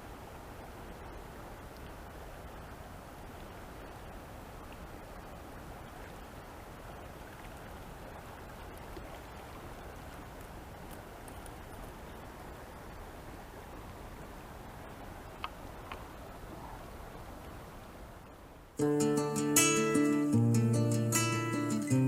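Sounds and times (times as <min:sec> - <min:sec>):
fast river rushing: 0:00.0 - 0:22.0.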